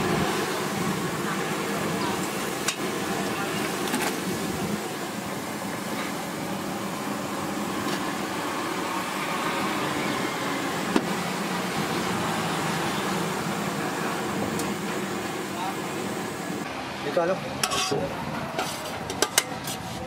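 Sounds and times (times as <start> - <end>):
deep-frying sizzle in hot oil: 0.0 - 17.8
street traffic noise: 0.0 - 20.0.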